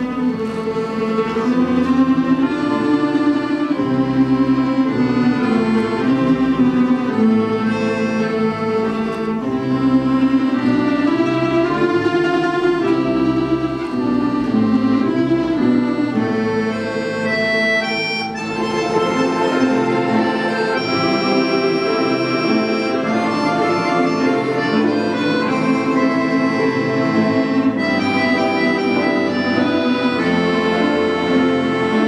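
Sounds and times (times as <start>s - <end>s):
accordion chords: 0.0s - 32.0s
folk instrument orchestra playing: 0.0s - 32.0s.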